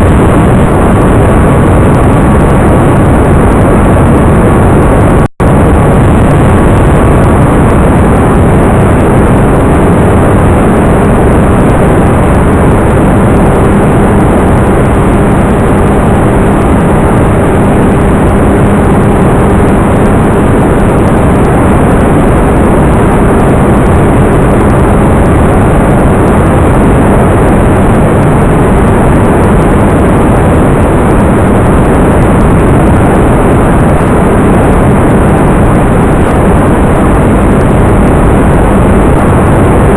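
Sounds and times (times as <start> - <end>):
faint steady hum: 0.0 - 39.9
propeller noise: 0.0 - 39.9.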